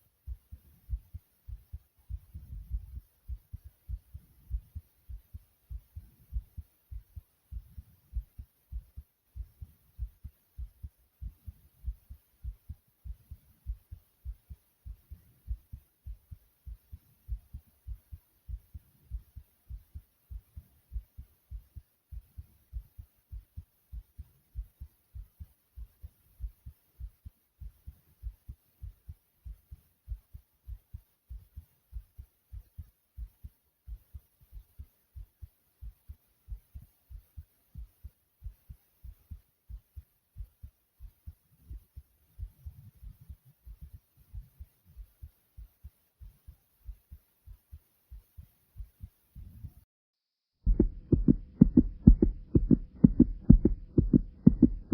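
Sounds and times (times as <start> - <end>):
fast heartbeat thumps: 0.0 - 49.8, 50.6 - 54.9.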